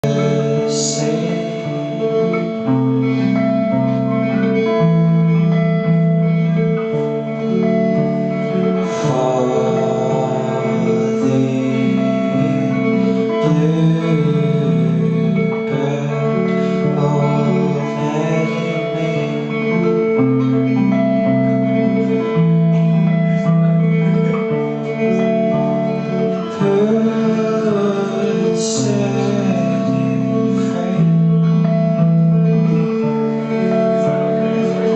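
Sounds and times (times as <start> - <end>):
electric guitar playing: 0.0 - 34.9
person singing: 0.0 - 34.9
steady bass notes: 0.0 - 34.9.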